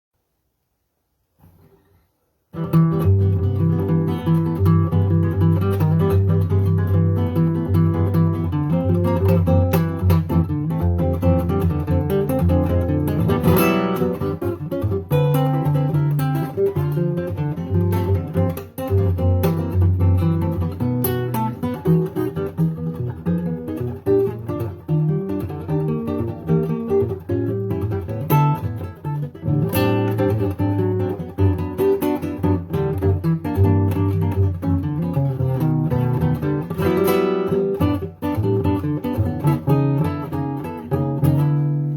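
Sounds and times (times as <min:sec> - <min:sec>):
acoustic guitar playing: 0:01.4 - 0:41.9.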